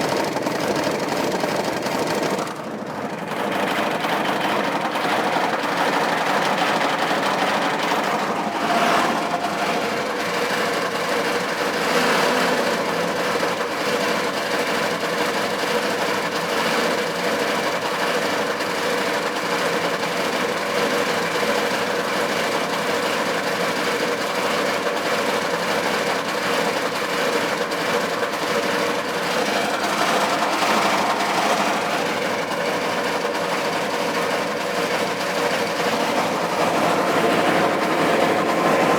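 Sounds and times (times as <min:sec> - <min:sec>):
diesel engine knocking and rattling: 0:00.0 - 0:38.9.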